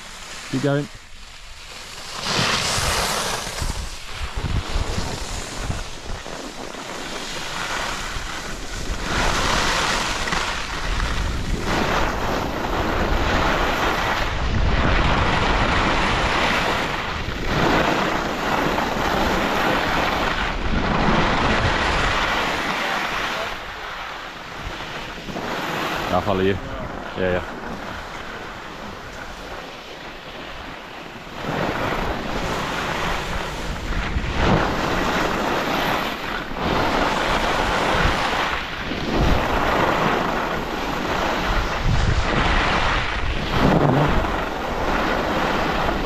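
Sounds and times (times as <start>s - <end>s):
skis scraping over snow: 0.0s - 46.0s
wind on microphone: 0.0s - 46.0s.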